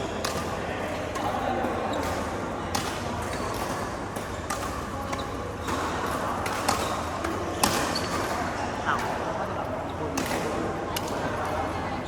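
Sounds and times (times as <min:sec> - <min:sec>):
rackets striking shuttlecock: 0:00.0 - 0:09.4, 0:10.1 - 0:11.6
steady background din: 0:00.0 - 0:12.0.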